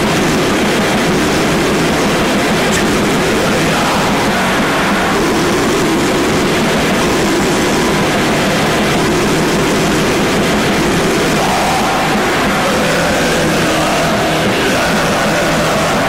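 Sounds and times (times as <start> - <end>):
heavily distorted noise: 0.0 - 16.0.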